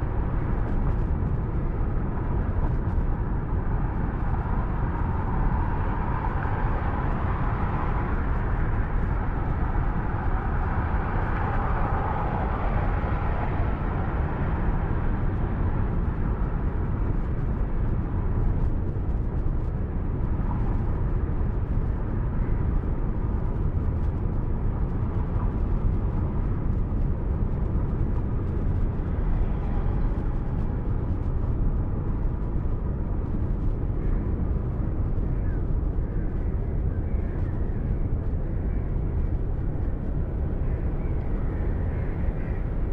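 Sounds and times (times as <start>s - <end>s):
car driving road noise: 0.0s - 42.9s.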